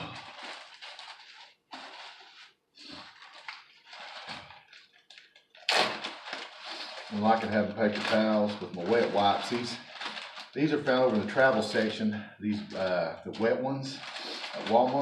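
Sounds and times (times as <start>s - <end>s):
gear rustling and crinkling: 0.0s - 15.0s.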